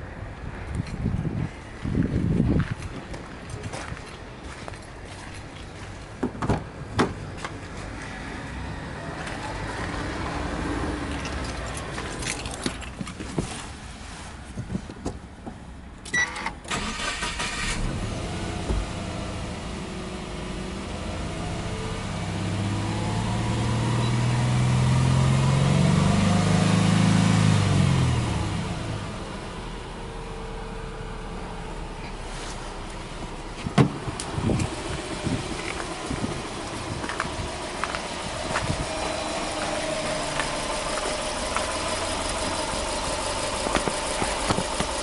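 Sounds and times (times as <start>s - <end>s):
car engine idling and revving: 0.0s - 14.3s, 15.5s - 45.0s.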